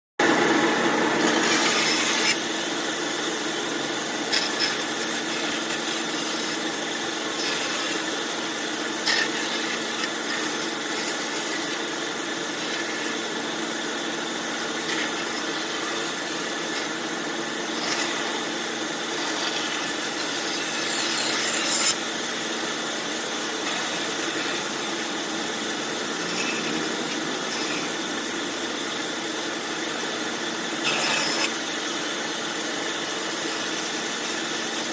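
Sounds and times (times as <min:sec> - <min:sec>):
band saw cutting wood: 0:00.2 - 0:34.9.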